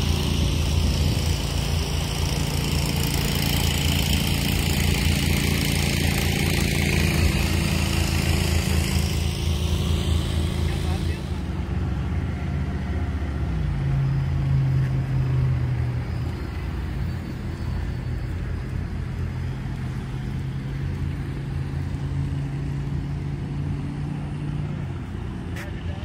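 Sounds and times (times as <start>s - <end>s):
car engine hum: 0.0s - 26.0s.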